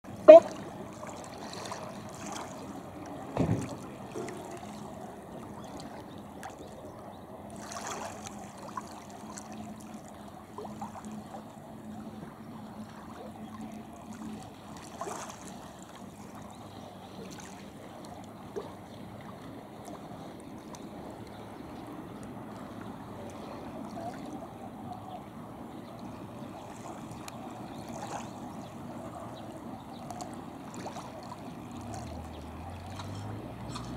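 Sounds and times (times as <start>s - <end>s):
water noise: 0.0s - 33.9s
wind: 0.0s - 33.9s.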